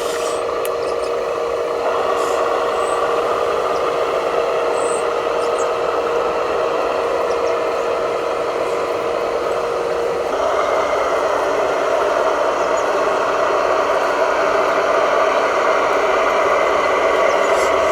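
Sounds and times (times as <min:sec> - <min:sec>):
small electric motor whining: 0:00.0 - 0:17.9.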